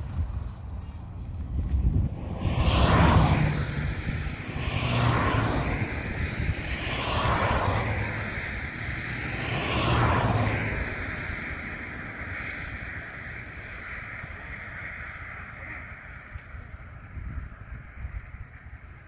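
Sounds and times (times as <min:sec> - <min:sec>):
cars driving past: 0:00.0 - 0:18.8.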